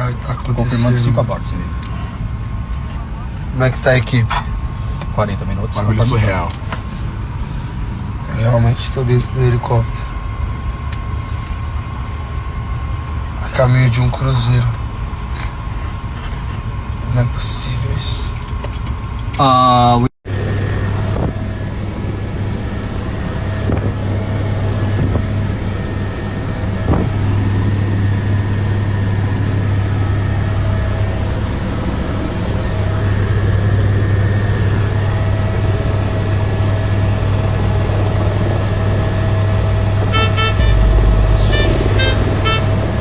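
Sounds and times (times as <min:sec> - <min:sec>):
helicopter cabin drone: 0:00.0 - 0:43.0.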